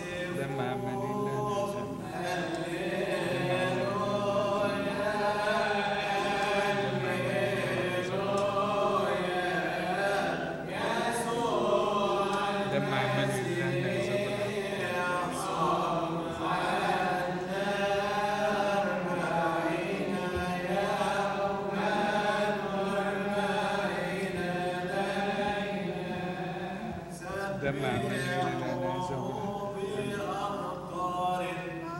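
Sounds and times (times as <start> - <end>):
liturgical chant singing: 0.0 - 31.9.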